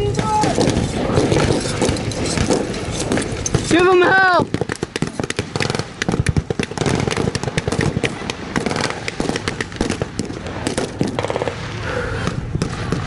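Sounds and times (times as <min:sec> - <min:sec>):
rapid gunfire: 0:00.0 - 0:11.6.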